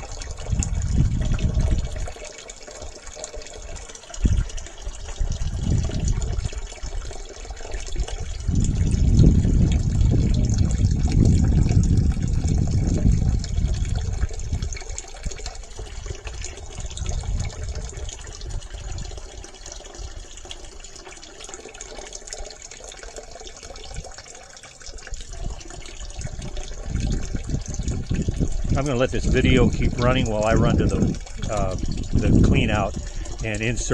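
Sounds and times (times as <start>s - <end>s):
water pouring into bucket: 0.0s - 33.9s.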